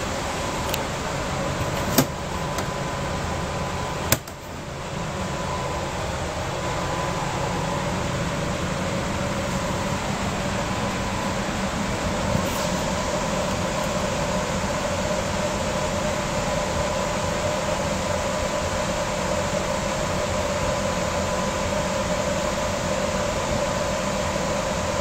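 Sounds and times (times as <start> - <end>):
air conditioning whirring hiss: 0.0 - 25.0.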